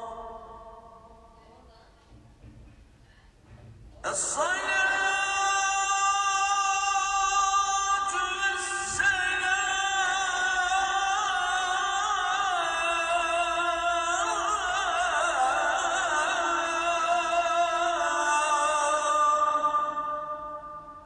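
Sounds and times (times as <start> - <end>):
man chanting: 4.0 - 21.0.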